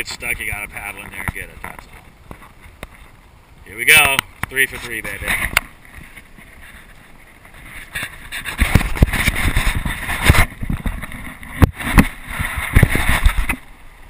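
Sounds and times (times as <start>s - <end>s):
camera bumps and rubbing: 0.4s - 3.2s, 4.1s - 13.7s.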